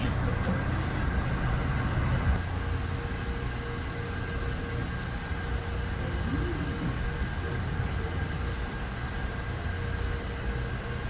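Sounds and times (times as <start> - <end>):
factory machinery rumble: 0.0 - 11.0.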